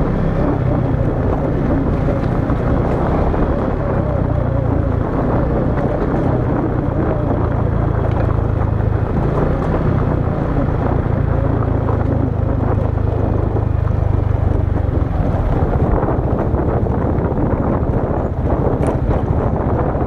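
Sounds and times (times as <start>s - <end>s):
vehicle engine running: 0.0s - 20.0s
wind buffeting microphone: 0.0s - 20.0s.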